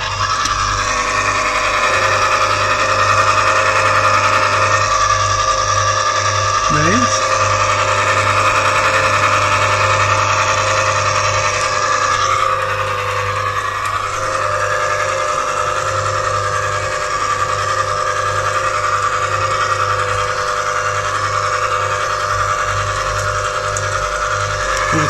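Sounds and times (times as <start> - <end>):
ice cream maker motor humming: 0.0 - 25.0.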